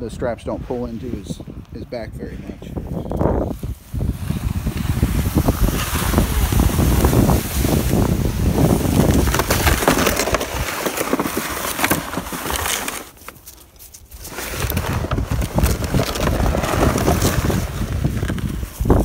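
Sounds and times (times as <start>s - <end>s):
footsteps in snow: 3.0s - 19.0s
sled scraping over snow: 3.0s - 19.0s.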